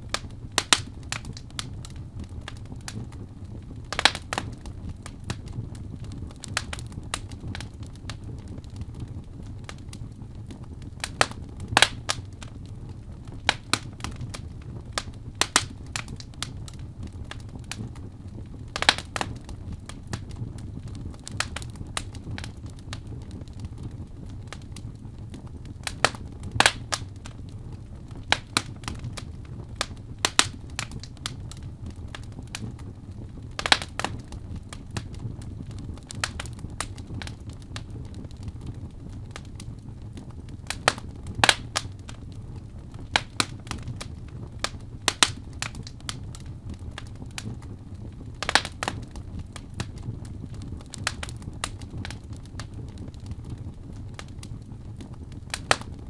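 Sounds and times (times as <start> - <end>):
fire crackling in fireplace: 0.0 - 56.0.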